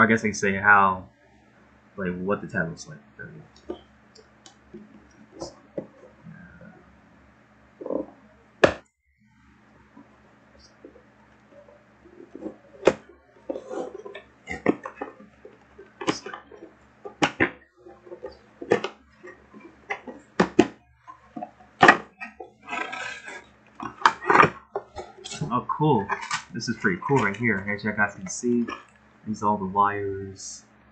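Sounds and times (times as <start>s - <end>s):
faint low hum: 0.0s - 30.9s.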